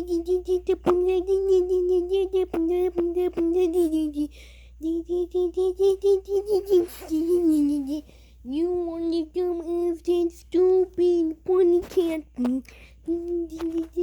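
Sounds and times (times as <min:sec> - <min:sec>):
child beatboxing: 0:00.0 - 0:14.0.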